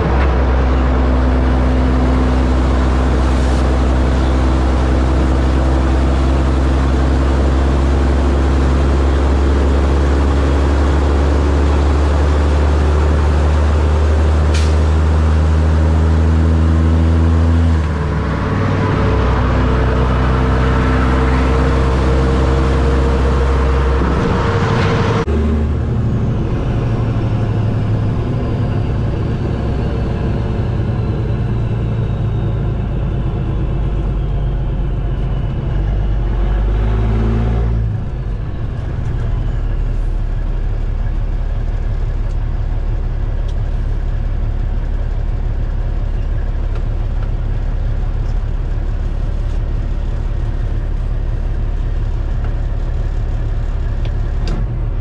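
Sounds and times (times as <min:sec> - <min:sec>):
engine rumble inside cab: 0:00.0 - 0:55.0
truck diesel engine droning: 0:00.0 - 0:55.0.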